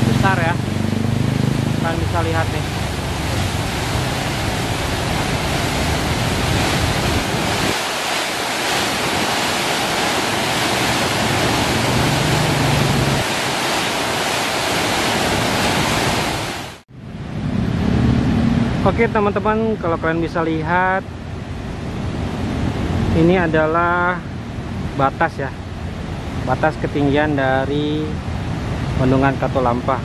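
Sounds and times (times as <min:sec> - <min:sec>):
river rushing over weir: 0:00.0 - 0:30.0.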